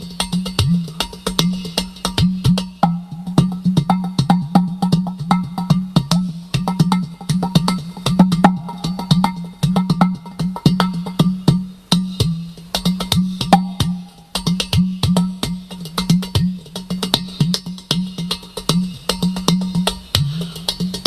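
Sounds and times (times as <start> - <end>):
clay pot drum played by hand: 0.0 - 21.0.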